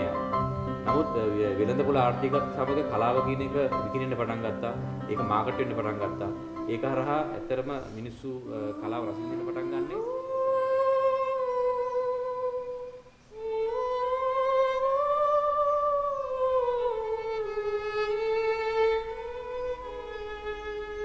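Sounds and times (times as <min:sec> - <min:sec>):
slow solo violin melody: 0:00.0 - 0:21.0.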